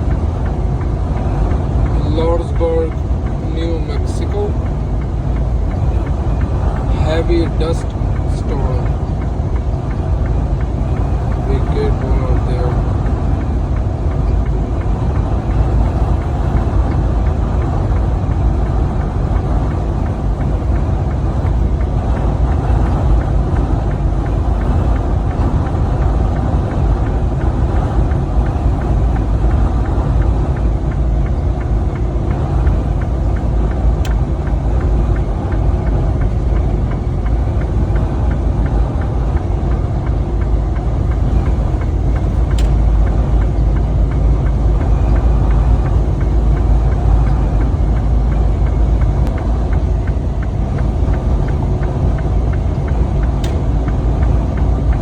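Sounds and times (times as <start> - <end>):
truck engine and road noise: 0.0 - 55.0
wind buffeting: 0.0 - 55.0.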